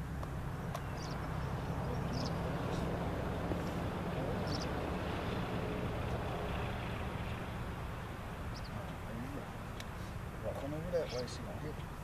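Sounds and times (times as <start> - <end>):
low engine hum: 0.0 - 12.0
bird chirping: 0.5 - 10.2.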